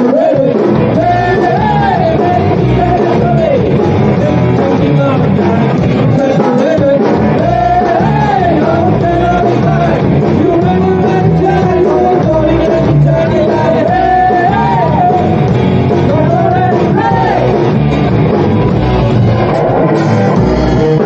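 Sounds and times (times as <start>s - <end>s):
rock song with singer and band: 0.0s - 21.0s.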